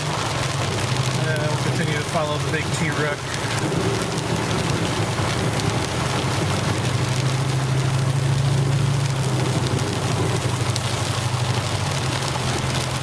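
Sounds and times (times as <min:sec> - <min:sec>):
heavy rain on a truck: 0:00.0 - 0:13.0.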